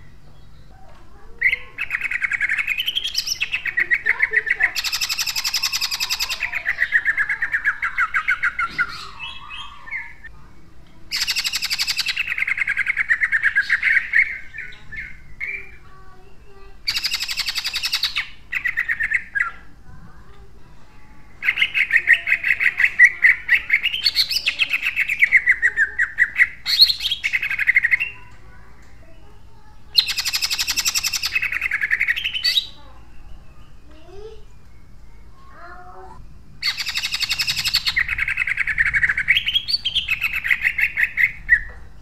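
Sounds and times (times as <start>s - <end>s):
bird singing harsh trills: 0.0s - 42.0s.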